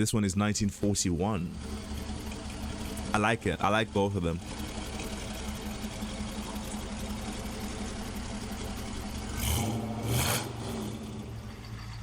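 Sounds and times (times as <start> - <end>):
truck engine idling and revving: 0.6 - 12.0.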